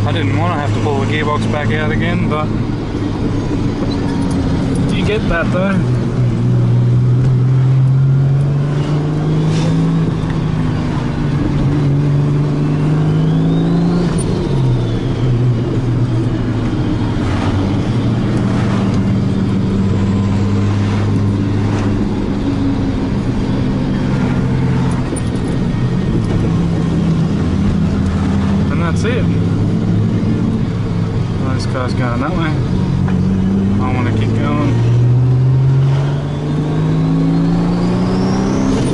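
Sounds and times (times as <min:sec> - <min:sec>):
car engine from inside car: 0:00.0 - 0:38.9.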